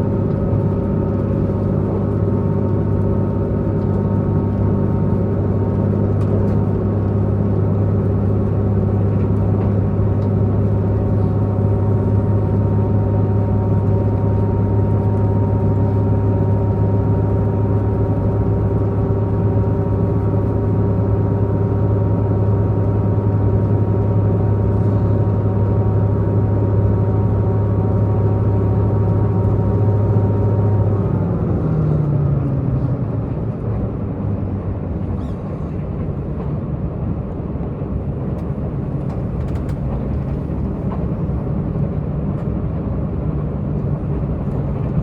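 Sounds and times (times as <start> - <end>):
train diesel engine humming: 0.0 - 45.0.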